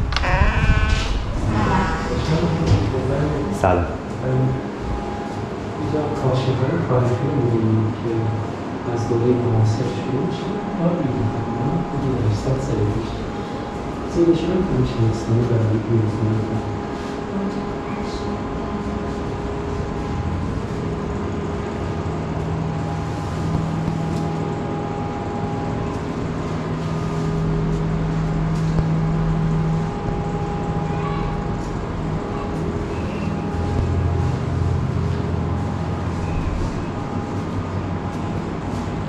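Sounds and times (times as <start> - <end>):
low mechanical hum and rumble: 0.0 - 39.0.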